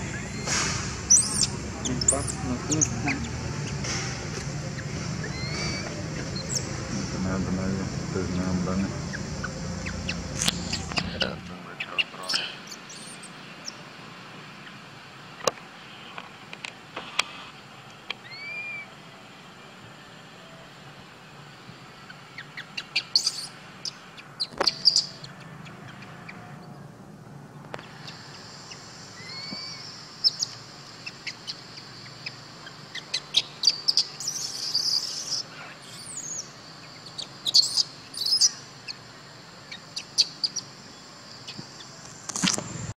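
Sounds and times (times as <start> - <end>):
birds chirping: 0.0 - 16.1, 18.1 - 19.2, 21.4 - 42.9.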